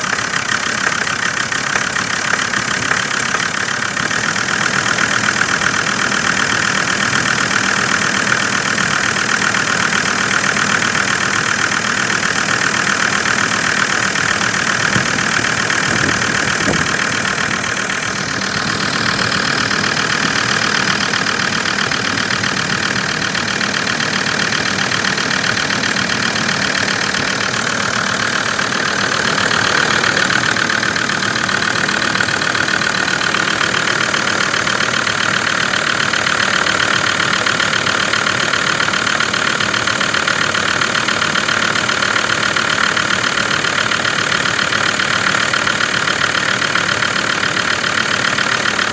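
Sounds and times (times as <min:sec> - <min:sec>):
diesel engine idling unevenly: 0:00.0 - 0:48.9.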